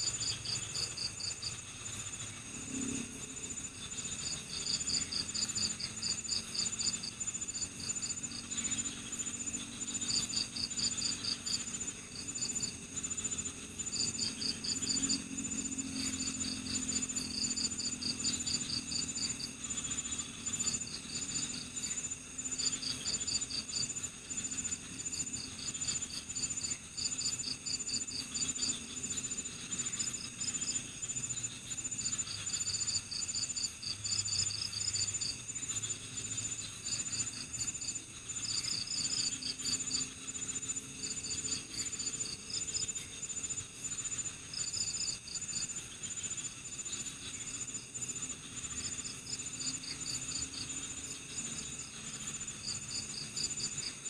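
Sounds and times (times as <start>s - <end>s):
insect trill: 0.0s - 54.0s
rapid cricket chirping: 0.0s - 54.0s.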